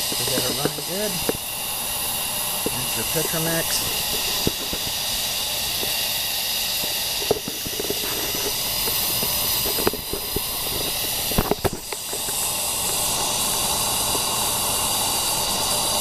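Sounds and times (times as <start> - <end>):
pressure lantern burner hissing: 0.0 - 16.0.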